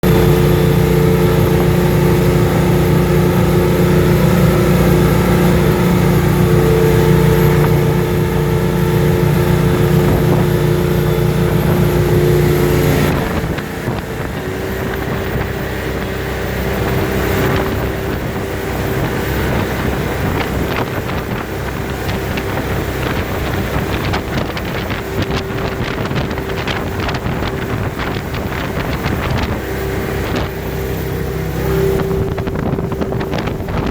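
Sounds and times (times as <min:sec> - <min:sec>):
boat diesel engine running: 0:00.0 - 0:33.9
rushing wind and water: 0:00.0 - 0:33.9.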